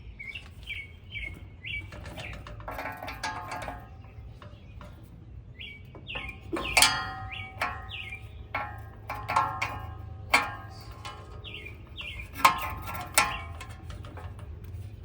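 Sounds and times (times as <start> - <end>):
small birds chirping: 0.0 - 15.0
metal tools clinking: 1.8 - 5.2, 5.9 - 15.0.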